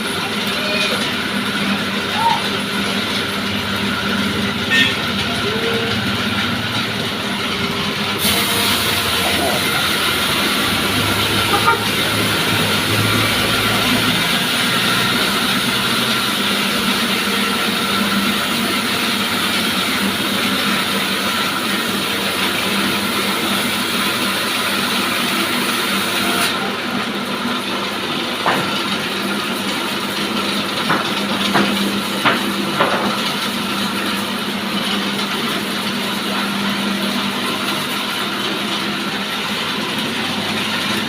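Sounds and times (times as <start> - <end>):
sawmill saw cutting timber: 0.0 - 41.0.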